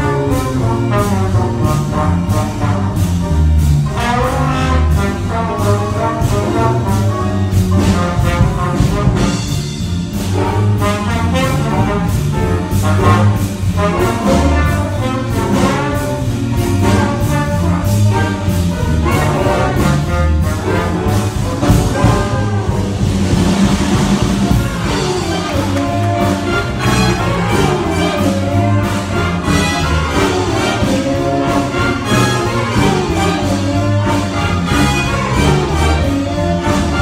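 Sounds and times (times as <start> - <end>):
jazz big band playing: 0.0 - 37.0
trumpets and trombones: 0.0 - 37.0.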